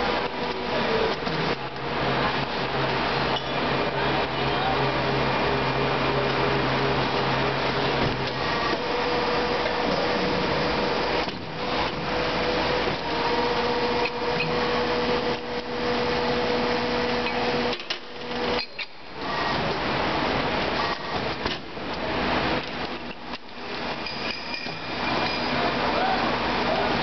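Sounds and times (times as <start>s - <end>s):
injection moulding machine running: 0.0s - 27.0s.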